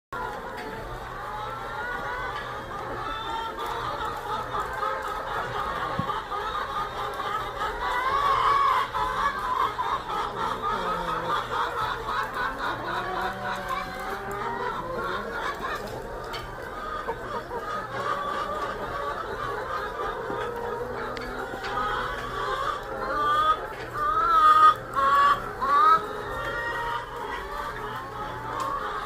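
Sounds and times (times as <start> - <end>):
hens clucking: 0.2 - 29.0.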